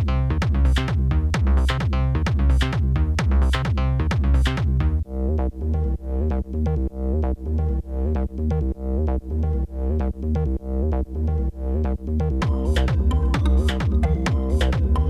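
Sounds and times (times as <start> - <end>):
electronic techno music: 0.0 - 15.0.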